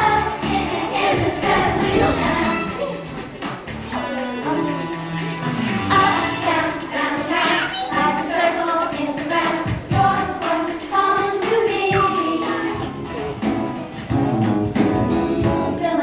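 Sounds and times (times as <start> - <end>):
children's choir singing: 0.0 - 4.8, 5.8 - 13.5, 15.7 - 16.0
musical accompaniment: 0.0 - 16.0.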